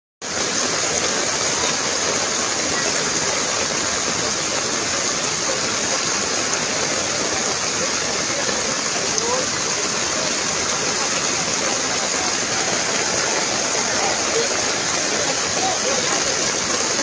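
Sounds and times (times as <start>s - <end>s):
floodwater rushing: 0.2s - 17.0s.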